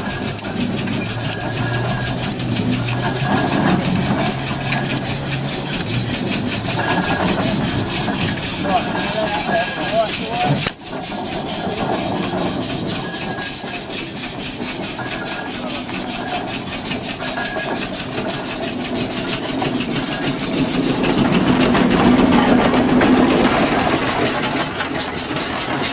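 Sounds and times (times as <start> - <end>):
mechanical clatter: 0.0 - 25.9
steam traction engine exhaust beating: 0.0 - 25.9.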